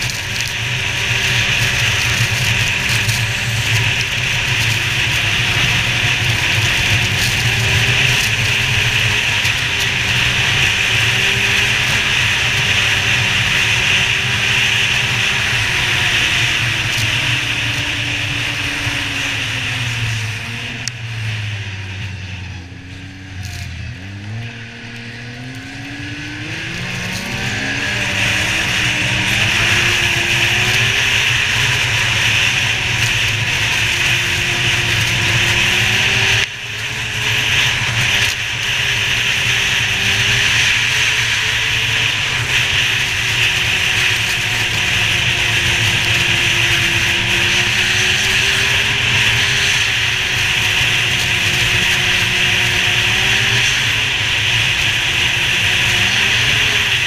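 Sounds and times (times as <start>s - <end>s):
snowmobile engine running: 0.0s - 57.0s
snowmobile track noise: 0.0s - 57.0s.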